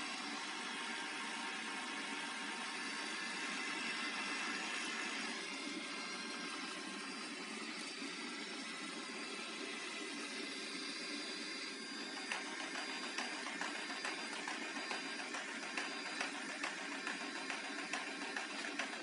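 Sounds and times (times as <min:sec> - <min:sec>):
robot vacuum motor whirring: 0:00.0 - 0:19.0.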